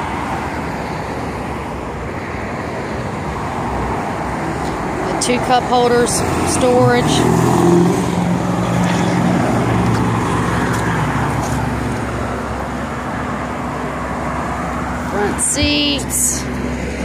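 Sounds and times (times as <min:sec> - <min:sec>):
engine hum and road rumble: 0:00.0 - 0:17.0.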